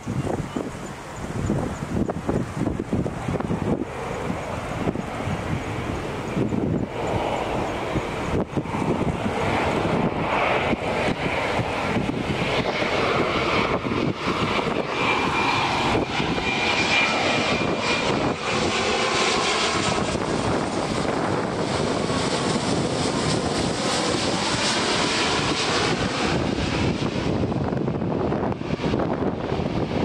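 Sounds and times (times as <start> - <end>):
jet plane roar overhead: 0.0 - 30.0.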